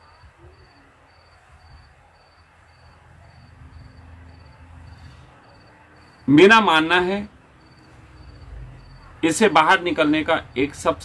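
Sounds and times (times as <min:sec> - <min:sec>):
cricket chirping: 0:00.0 - 0:06.9, 0:07.6 - 0:10.9.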